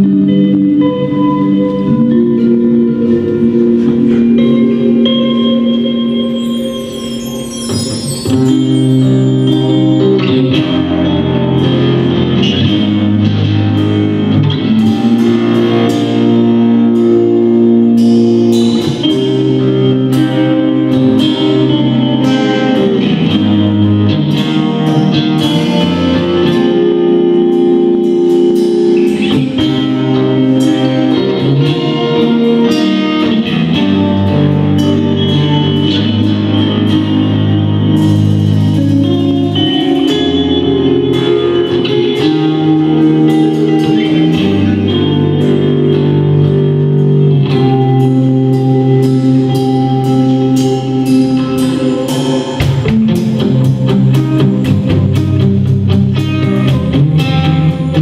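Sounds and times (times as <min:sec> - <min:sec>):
electric guitar chords: 0:00.0 - 0:58.0.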